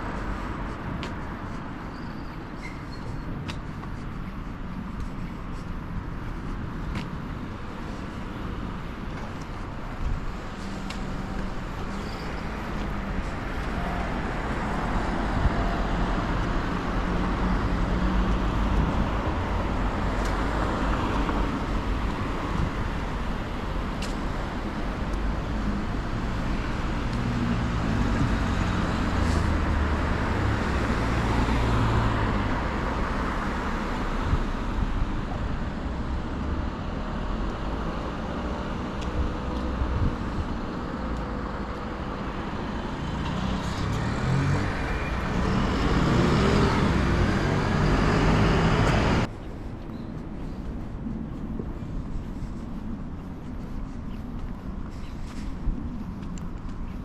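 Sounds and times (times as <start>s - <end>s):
vehicles passing on a road: 0.0s - 57.0s.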